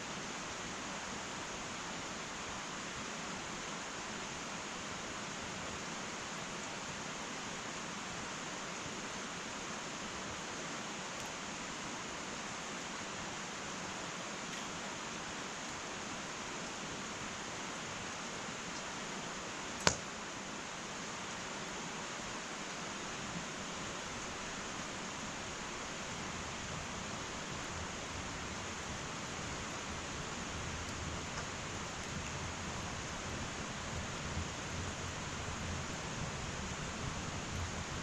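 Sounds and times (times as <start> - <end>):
faint fire crackles: 0.0 - 38.0
wood fire hissing: 0.0 - 38.0.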